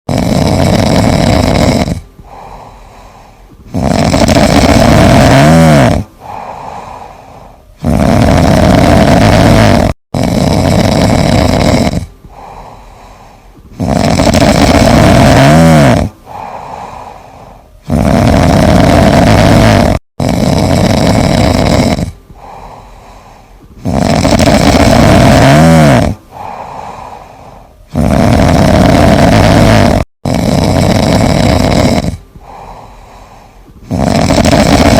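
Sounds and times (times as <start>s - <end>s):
loud snoring: 0.1s - 34.9s.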